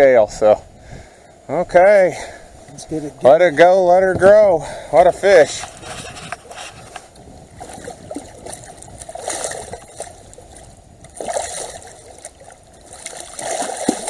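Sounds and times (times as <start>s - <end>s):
water splashing at boat side: 2.7s - 14.0s.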